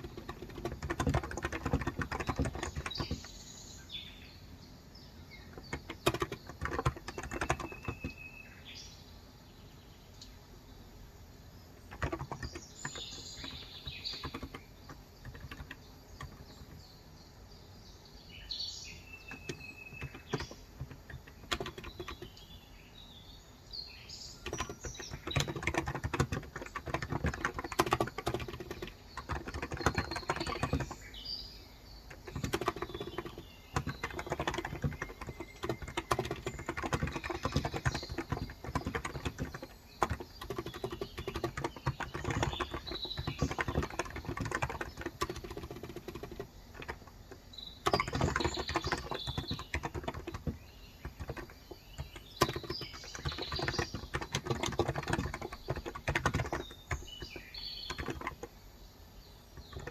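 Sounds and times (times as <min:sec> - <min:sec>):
keyboard typing: 0:00.0 - 0:03.4, 0:05.4 - 0:08.2, 0:11.8 - 0:16.9, 0:19.2 - 0:22.6, 0:24.4 - 0:31.2, 0:32.0 - 0:58.7, 0:59.6 - 0:59.9
birds chirping: 0:00.0 - 0:59.9.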